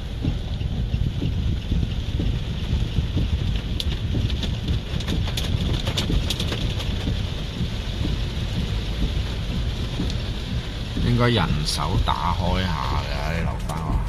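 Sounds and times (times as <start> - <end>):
heavy rain: 0.0 - 14.0
raindrops ticking: 0.0 - 14.0
wind buffeting microphone: 0.0 - 14.0.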